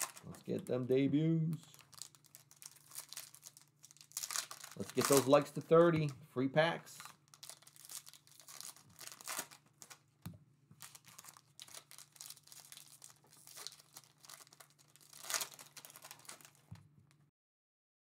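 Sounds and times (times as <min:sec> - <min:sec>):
foil wrappers crinkling: 0:00.0 - 0:06.1, 0:06.9 - 0:10.1, 0:10.8 - 0:16.8.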